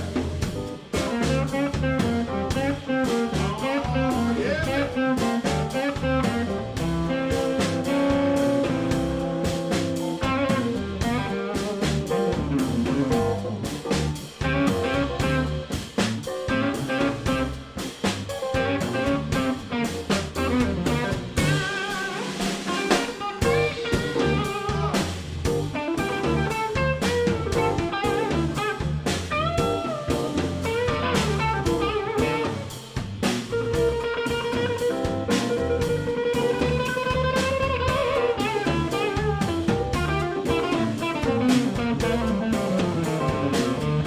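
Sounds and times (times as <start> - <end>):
bass guitar: 0.0 - 44.0
drum kit beat: 0.0 - 44.0
electric blues guitar: 0.0 - 44.0
keyboard: 0.0 - 44.0.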